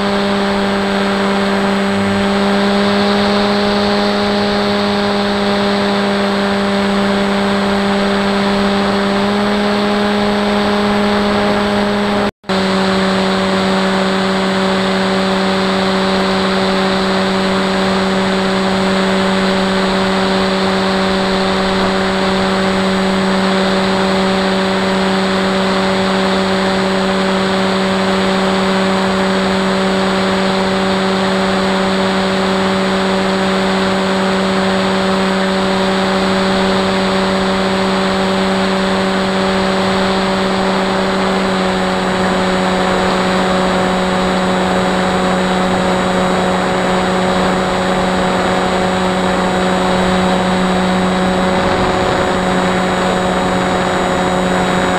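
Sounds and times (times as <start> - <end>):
electric motor buzzing: 0.0 - 54.9.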